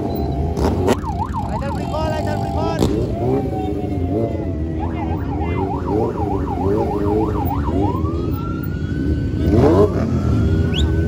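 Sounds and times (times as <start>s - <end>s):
engine revving: 0.0s - 11.0s
motorcycle engines rumbling: 0.0s - 11.0s
siren warbling and wailing: 0.8s - 11.0s.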